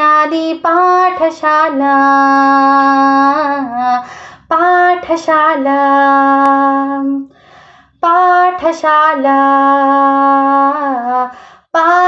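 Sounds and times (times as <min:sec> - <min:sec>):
young woman singing: 0:00.0 - 0:07.3, 0:08.0 - 0:12.0.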